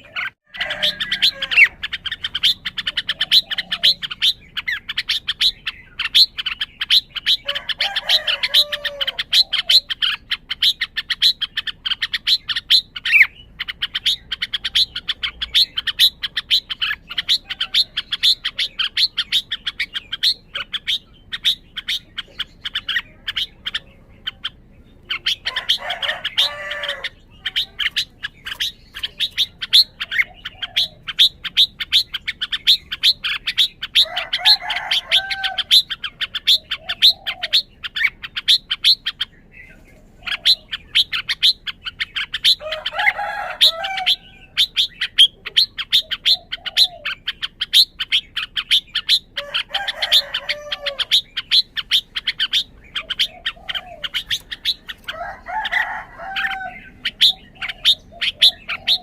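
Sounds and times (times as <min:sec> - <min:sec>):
bulbul singing warbled phrases: 0:00.0 - 0:59.0.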